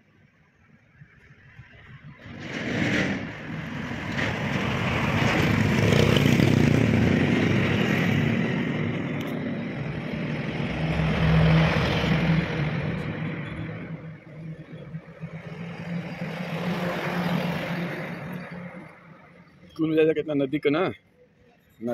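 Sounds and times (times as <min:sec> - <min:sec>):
vehicle passing on road: 0:01.6 - 0:20.1.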